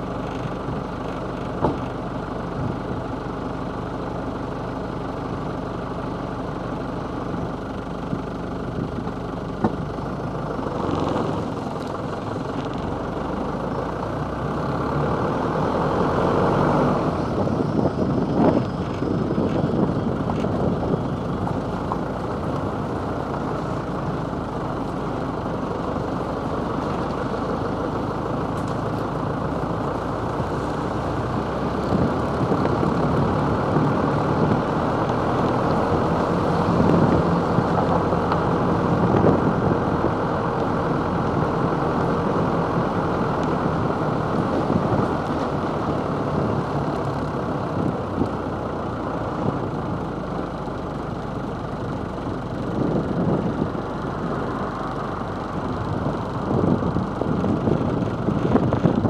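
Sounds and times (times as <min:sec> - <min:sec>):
road and tyre noise: 0:00.0 - 0:59.0
van engine running: 0:00.0 - 0:59.0.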